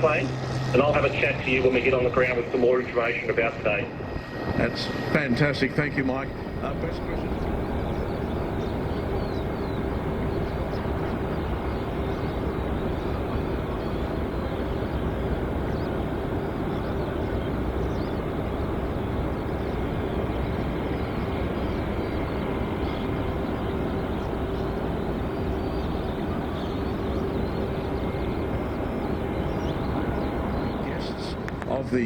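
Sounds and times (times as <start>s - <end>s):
jet engine rumble: 0.0s - 32.0s.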